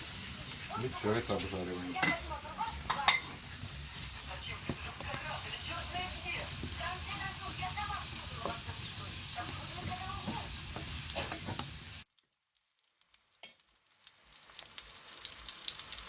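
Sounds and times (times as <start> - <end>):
vegetables sizzling in a frying pan: 0.0 - 12.1, 12.9 - 16.0.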